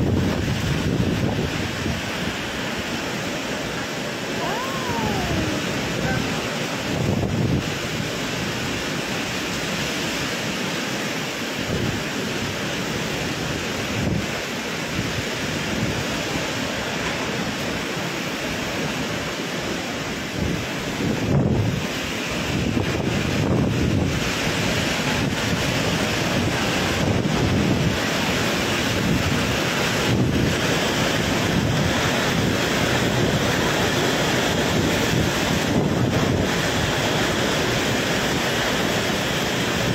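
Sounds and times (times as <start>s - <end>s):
torrential rain: 0.0s - 39.9s
typhoon winds: 0.0s - 39.9s.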